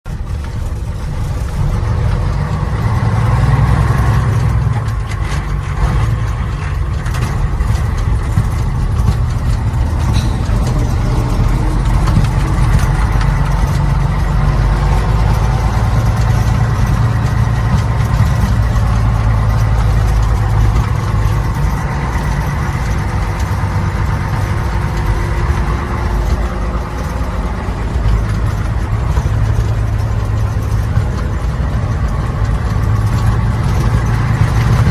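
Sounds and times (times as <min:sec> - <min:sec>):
truck engine drone: 0:00.1 - 0:34.9.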